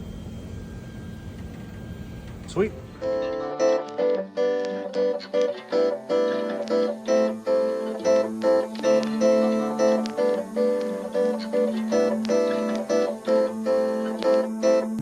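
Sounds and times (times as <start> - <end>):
acoustic guitar strumming: 2.5 - 15.0.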